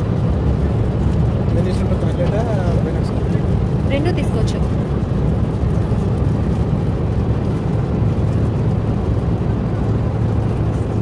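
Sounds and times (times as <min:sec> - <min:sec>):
vehicle interior rumble: 0:00.0 - 0:11.0.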